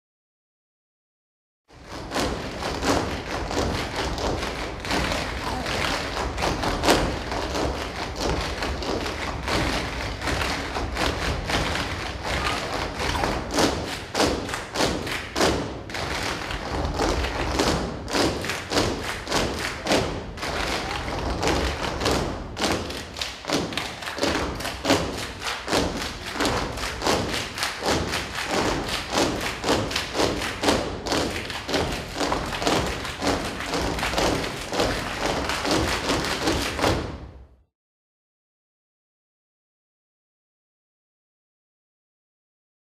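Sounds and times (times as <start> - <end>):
tap shoes striking stage floor: 1.8 - 37.3.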